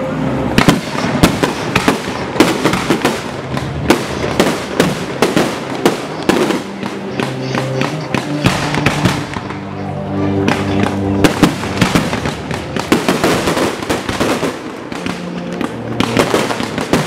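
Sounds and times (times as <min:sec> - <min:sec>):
fireworks bangs and crackle: 0:00.0 - 0:17.0.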